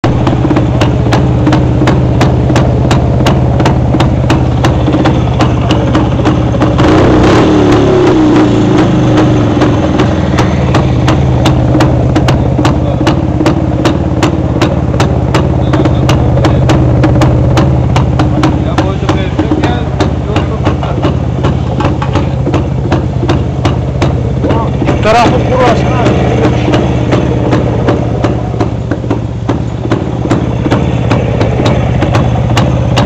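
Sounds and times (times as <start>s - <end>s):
motorcycle engine idling: 0.0s - 33.0s
motorcycle engine revving: 0.0s - 33.0s.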